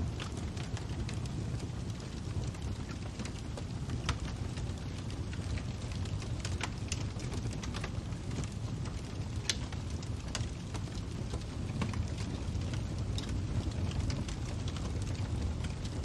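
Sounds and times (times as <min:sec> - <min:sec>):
fire popping and snapping: 0:00.0 - 0:16.0
wood fire crackling: 0:00.0 - 0:16.0.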